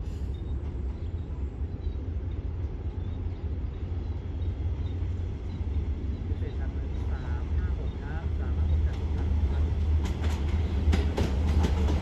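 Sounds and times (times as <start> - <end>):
diesel railcar rumble: 0.0 - 12.0.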